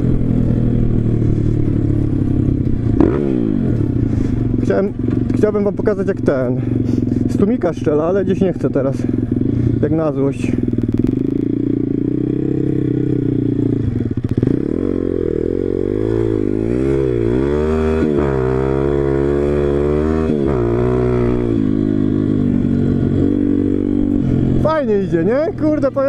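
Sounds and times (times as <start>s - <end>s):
motorbike engine revving: 0.0s - 26.0s.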